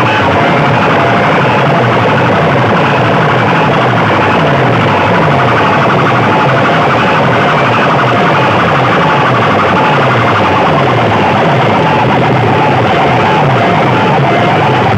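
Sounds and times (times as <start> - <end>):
distorted siren-like loudspeaker tones: 0.0 - 14.9.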